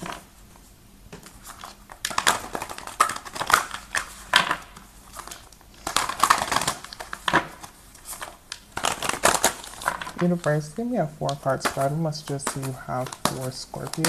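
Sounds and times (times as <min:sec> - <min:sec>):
cards being shuffled: 0:00.0 - 0:14.0.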